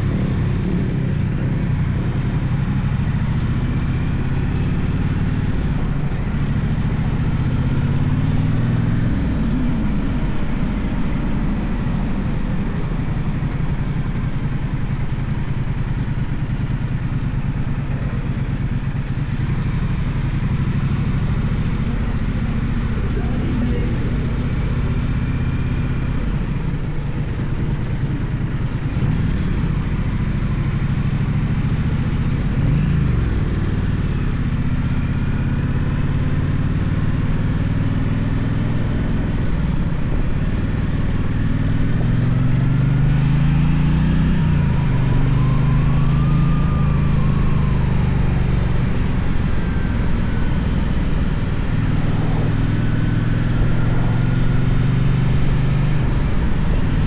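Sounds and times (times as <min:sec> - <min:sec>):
road noise rushing: 0:00.0 - 0:35.2, 0:38.6 - 0:57.0
motorcycle engine revving: 0:00.0 - 0:57.0.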